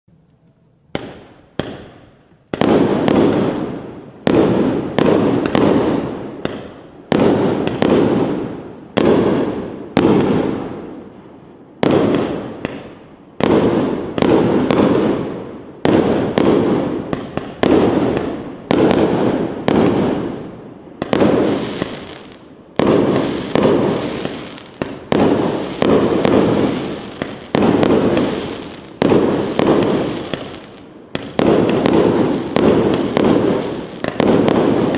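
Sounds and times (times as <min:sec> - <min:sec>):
small firework pops: 0:00.9 - 0:03.6, 0:04.2 - 0:08.4, 0:11.8 - 0:15.1, 0:15.8 - 0:20.2, 0:21.0 - 0:34.9
firework cake bangs: 0:02.6 - 0:08.4, 0:11.8 - 0:20.4, 0:21.0 - 0:34.9.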